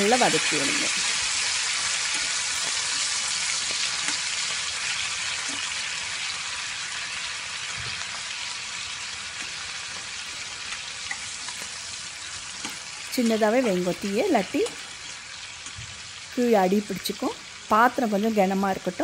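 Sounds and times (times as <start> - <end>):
tomatoes sizzling in a pan: 0.0 - 19.0.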